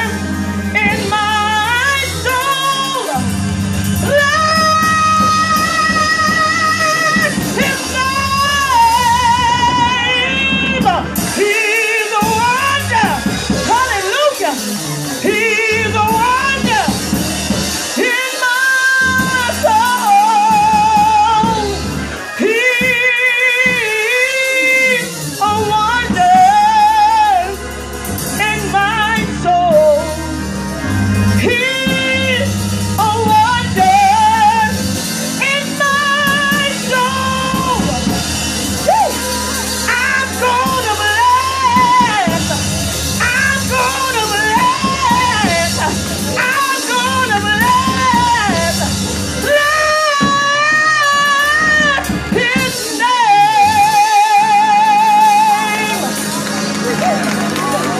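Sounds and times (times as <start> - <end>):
woman singing into a microphone: 0.0 - 17.1, 18.0 - 27.6, 28.2 - 30.3, 31.3 - 38.2, 38.8 - 56.2
instrumental accompaniment: 0.0 - 57.9.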